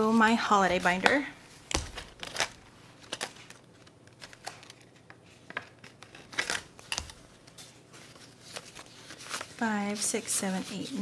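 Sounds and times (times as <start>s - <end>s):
paper bills rustling: 1.7s - 11.0s.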